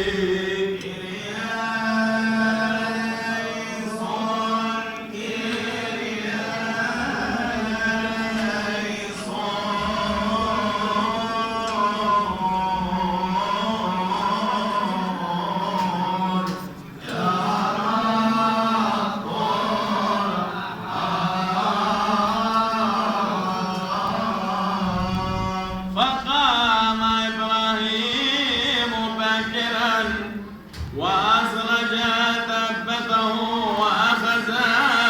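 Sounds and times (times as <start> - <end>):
man chanting: 0.0 - 35.0.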